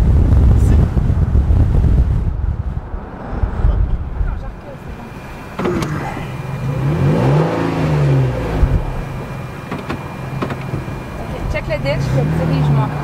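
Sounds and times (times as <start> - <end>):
vehicle engine passing by: 0.7 - 13.0.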